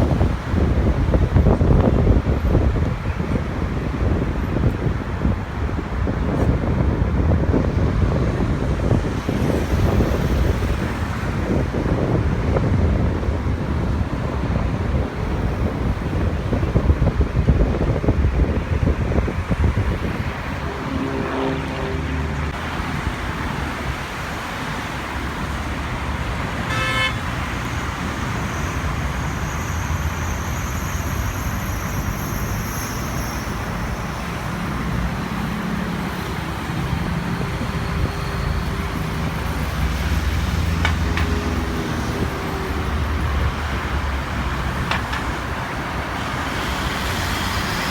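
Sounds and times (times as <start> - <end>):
road traffic noise: 0.0 - 47.9.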